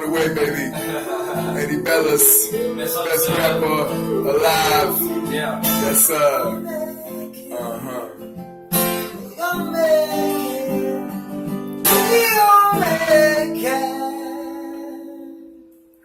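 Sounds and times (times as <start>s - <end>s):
person singing wordlessly: 0.0s - 11.2s, 11.9s - 15.5s
strummed acoustic guitar: 0.0s - 16.0s.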